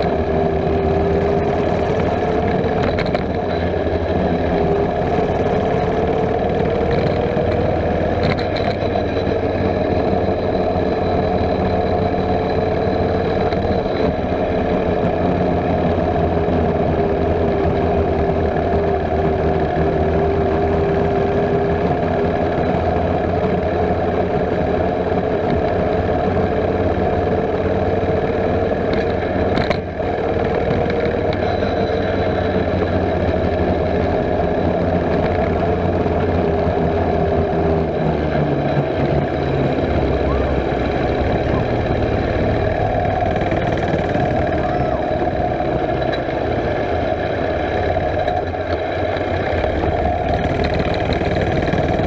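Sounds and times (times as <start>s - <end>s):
mini bike engine running: 0.0s - 52.0s.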